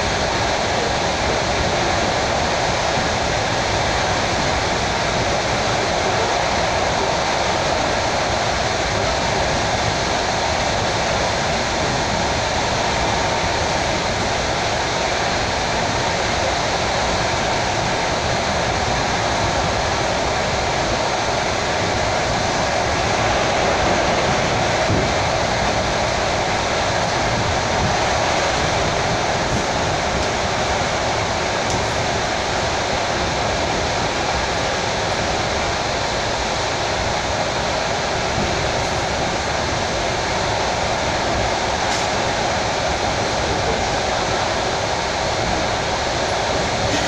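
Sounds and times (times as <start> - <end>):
train wheels on rails: 0.0 - 47.0.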